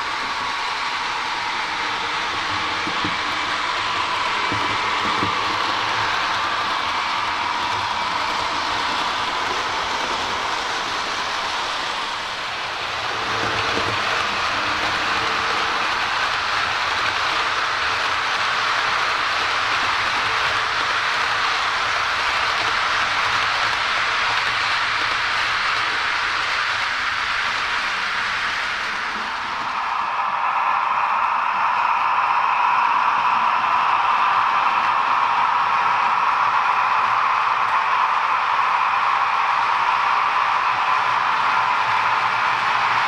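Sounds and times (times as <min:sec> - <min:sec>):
model train wheels rattling on rails: 0:00.0 - 0:43.0.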